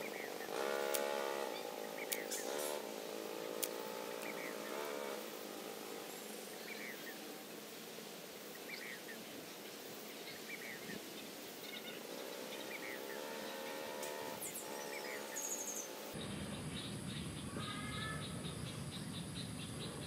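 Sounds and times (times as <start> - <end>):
insects hissing: 0.0 - 20.0.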